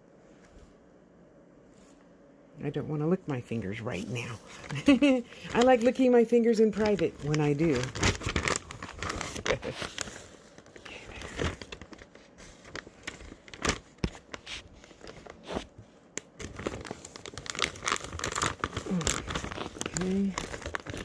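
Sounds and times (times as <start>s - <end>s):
plastic bag crinkling: 4.1s - 21.0s.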